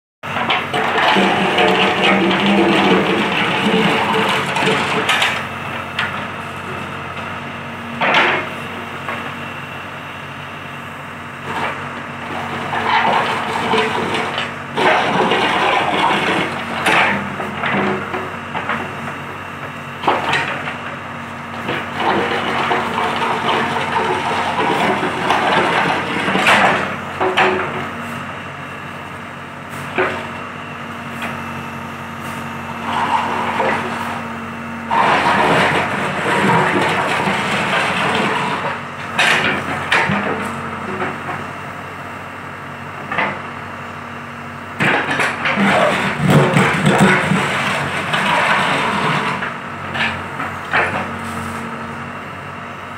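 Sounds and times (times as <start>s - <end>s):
diesel engine running: 0.2s - 52.9s.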